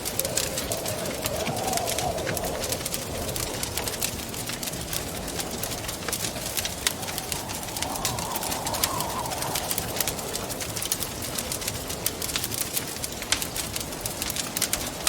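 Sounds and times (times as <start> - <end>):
wind howling: 0.0 - 15.0
wood fire crackling and popping: 0.0 - 15.0.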